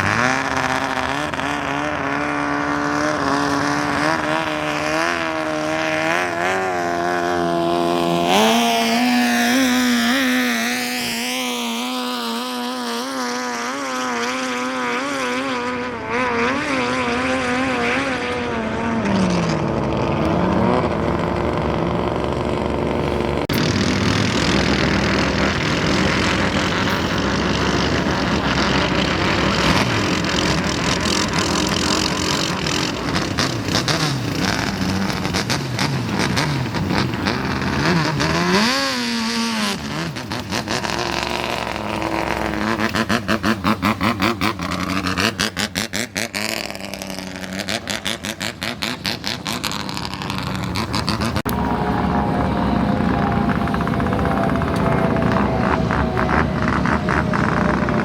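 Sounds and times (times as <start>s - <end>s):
speedboat engines roaring: 0.0s - 58.0s.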